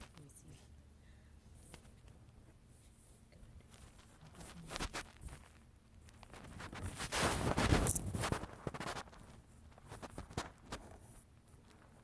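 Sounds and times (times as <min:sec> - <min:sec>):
hand rustling against phone microphone: 0:01.6 - 0:12.0.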